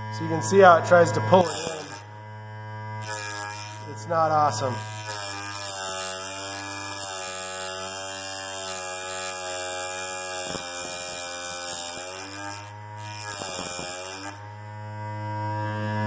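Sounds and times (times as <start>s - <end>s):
grinder motor humming: 0.0s - 16.0s
abrasive wheel grinding metal: 0.2s - 14.5s.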